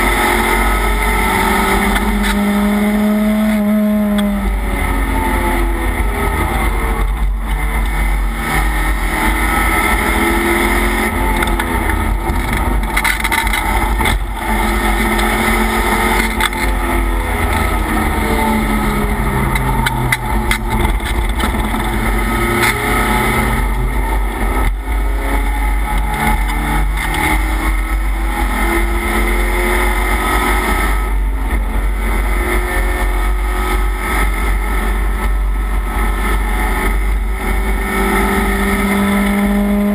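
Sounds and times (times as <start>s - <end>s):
race car engine revving: 0.0s - 39.9s
wind and road rumble: 0.0s - 39.9s.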